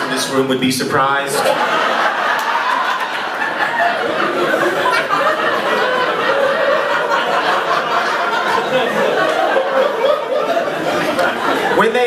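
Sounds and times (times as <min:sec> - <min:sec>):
audience laughing: 0:00.0 - 0:00.5, 0:01.2 - 0:12.0.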